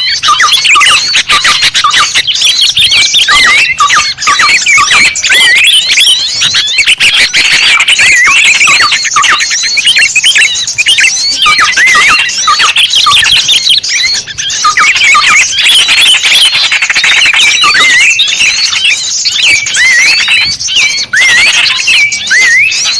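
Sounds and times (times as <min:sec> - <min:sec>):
small birds chirping chorus: 0:00.0 - 0:22.9.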